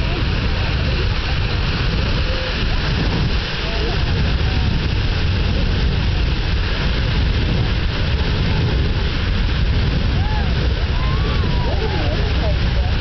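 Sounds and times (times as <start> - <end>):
deep rumble: 0.0 - 13.0
geyser water rushing: 0.0 - 13.0.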